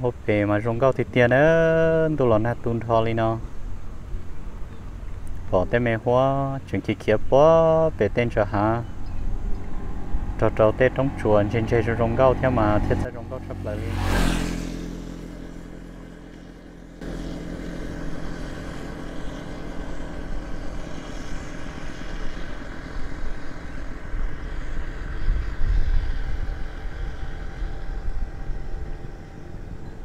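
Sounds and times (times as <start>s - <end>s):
vehicle running with low rumble: 0.0s - 30.0s.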